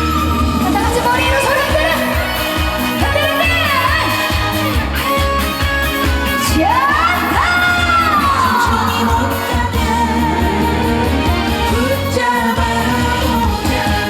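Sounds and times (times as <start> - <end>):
upbeat song over loud speakers: 0.0 - 14.0.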